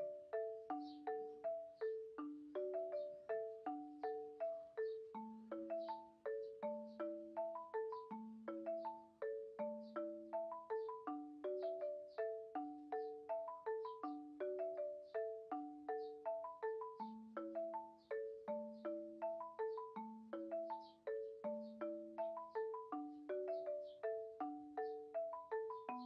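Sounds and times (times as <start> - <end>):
mallet percussion melody: 0.0 - 26.0.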